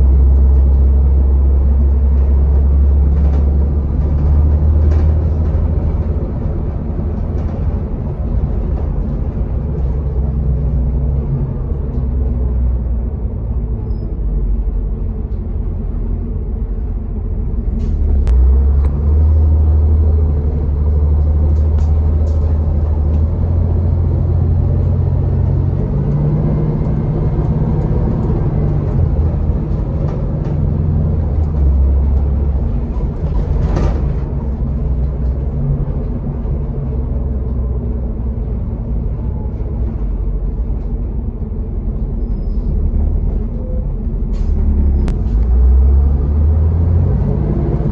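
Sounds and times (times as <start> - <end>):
bus engine rumble: 0.0 - 47.9
road noise: 0.0 - 47.9.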